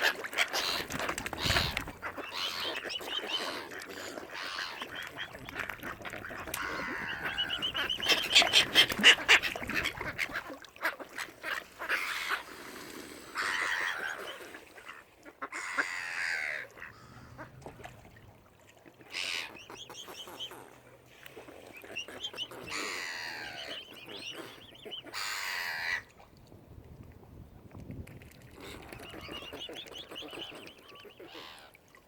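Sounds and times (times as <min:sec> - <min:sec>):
waterfowl calling: 0:00.0 - 0:12.5, 0:13.4 - 0:26.1, 0:28.6 - 0:31.8.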